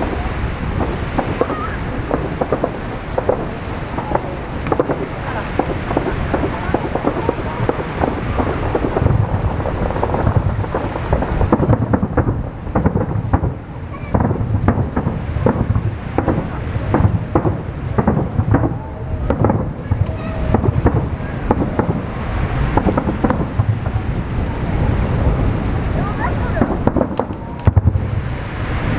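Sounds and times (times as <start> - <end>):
fireworks booming and banging: 0.0 - 28.9.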